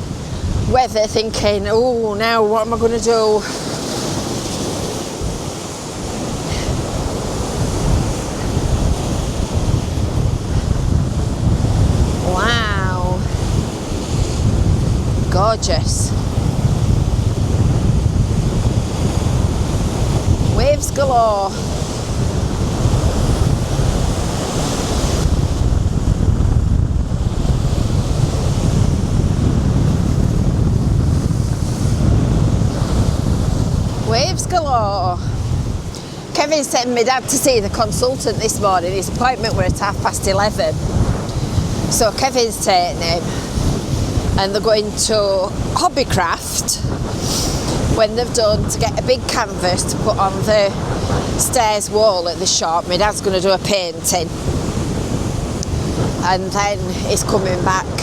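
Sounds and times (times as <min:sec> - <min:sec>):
sea waves breaking: 0:00.0 - 0:58.0
wind buffeting microphone: 0:00.0 - 0:58.0.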